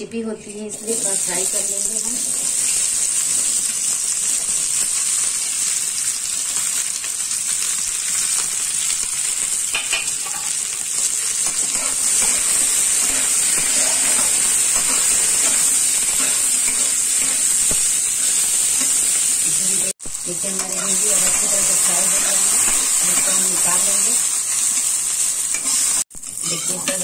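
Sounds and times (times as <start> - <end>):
okra sizzling in oil: 0.7 - 27.0.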